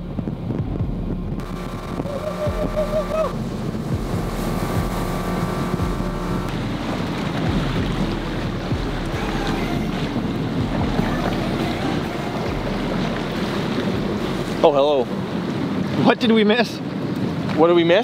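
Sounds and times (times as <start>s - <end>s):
outboard motor running: 0.0s - 16.0s
rush of water: 0.0s - 18.0s
wind on microphone: 0.0s - 18.0s.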